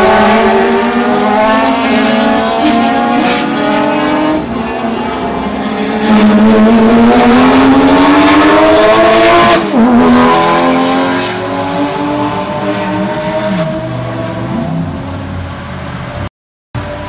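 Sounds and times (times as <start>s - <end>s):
race car engine at full throttle: 0.0s - 17.0s.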